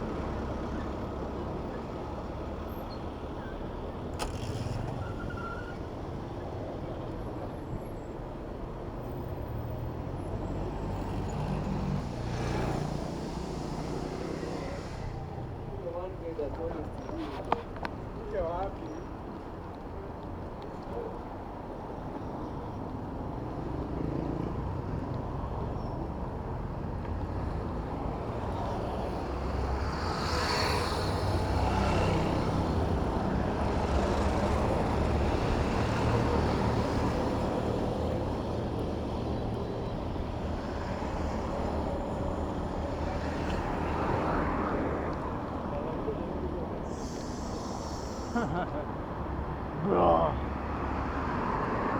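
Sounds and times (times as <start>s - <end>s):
vehicle engines: 0.0s - 51.9s.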